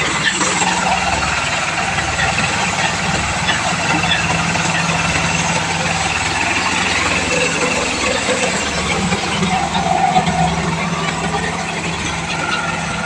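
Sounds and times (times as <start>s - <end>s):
combine harvester engine: 0.0s - 13.0s
dense mechanical noise: 0.0s - 13.0s.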